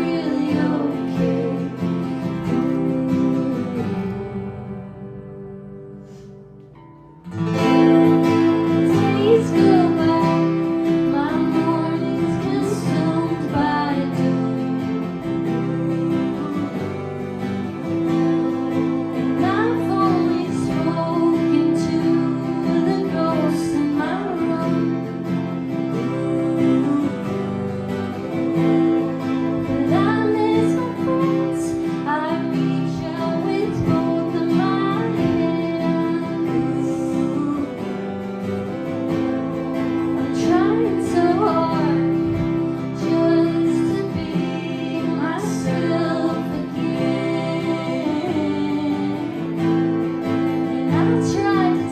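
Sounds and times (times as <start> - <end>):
woman singing: 0.0 - 6.2, 7.4 - 51.9
acoustic guitar strumming: 0.0 - 51.9.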